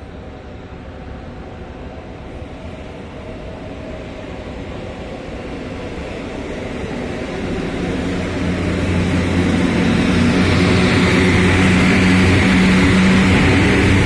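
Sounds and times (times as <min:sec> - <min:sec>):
rush of wheels on rail: 0:02.5 - 0:14.0.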